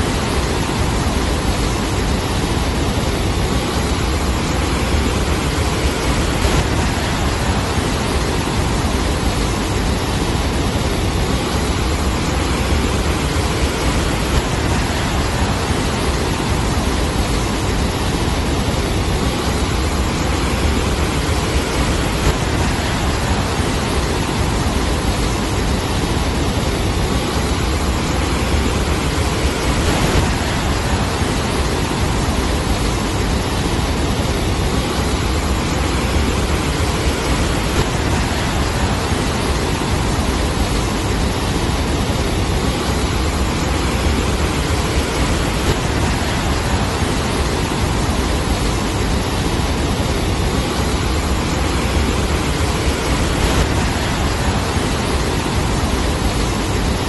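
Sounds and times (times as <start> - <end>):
storm surf rushing: 0.0 - 57.0
wind buffeting microphone: 0.0 - 57.0.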